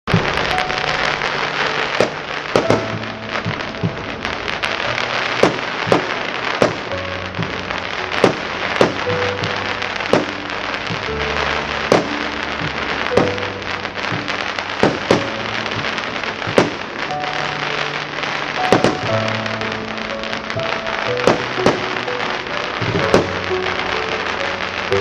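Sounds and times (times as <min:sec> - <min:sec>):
fireworks crackling: 0:00.0 - 0:25.0
fireworks bangs: 0:00.1 - 0:25.0.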